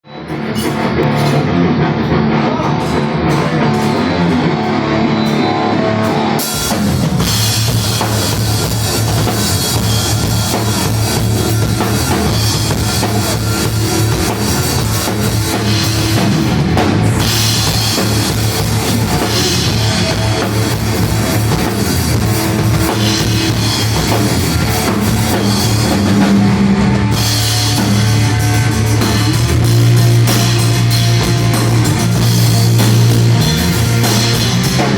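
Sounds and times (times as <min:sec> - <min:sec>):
rock band playing: 0:00.1 - 0:34.9
cymbals and drums: 0:00.2 - 0:34.9.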